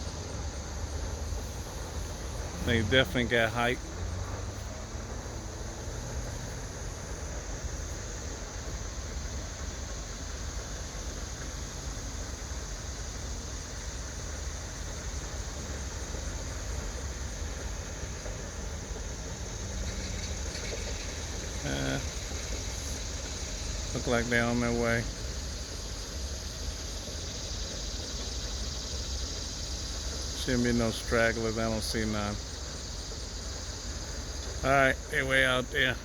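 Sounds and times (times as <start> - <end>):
faint outdoor hiss: 0.0 - 36.0.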